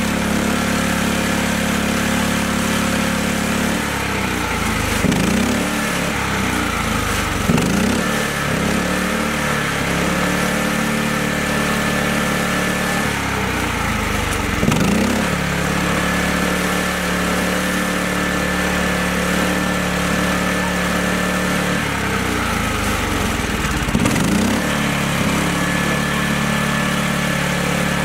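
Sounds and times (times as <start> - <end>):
tractor engine revving: 0.0 - 28.0
tractor engine running: 0.0 - 28.0.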